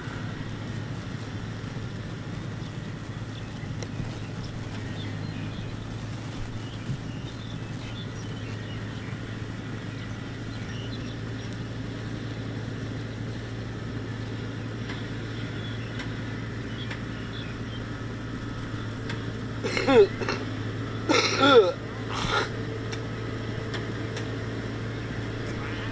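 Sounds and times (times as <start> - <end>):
combine harvester humming: 0.0 - 25.9.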